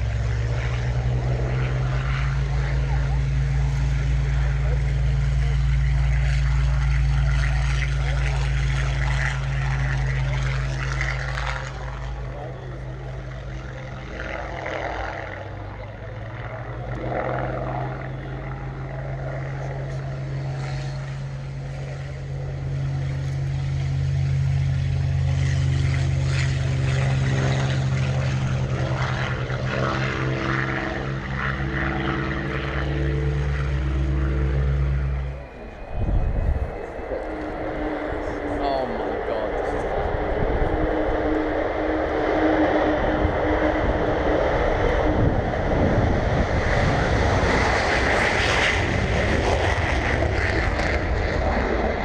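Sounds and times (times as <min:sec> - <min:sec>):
aircraft engines droning: 0:00.0 - 0:52.0.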